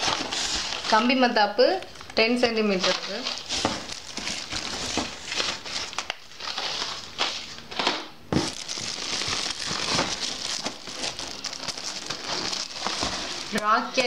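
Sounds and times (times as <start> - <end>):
cardboard scraping: 0.0 - 1.0, 2.8 - 14.0
cellophane crinkling: 0.0 - 7.6, 8.3 - 14.0.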